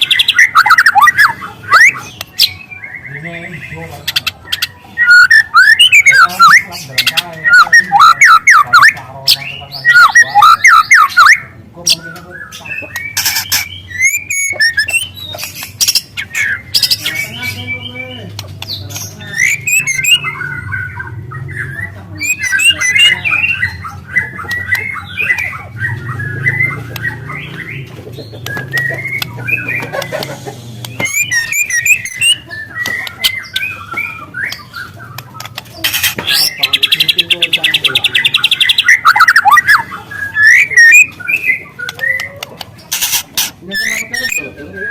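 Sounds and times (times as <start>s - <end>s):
songbird singing trills and whistles: 0.0s - 44.9s.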